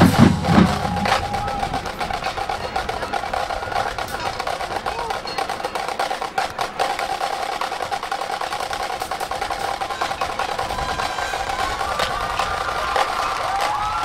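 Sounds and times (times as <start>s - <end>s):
drumline drum strokes and rolls: 0.0s - 14.0s.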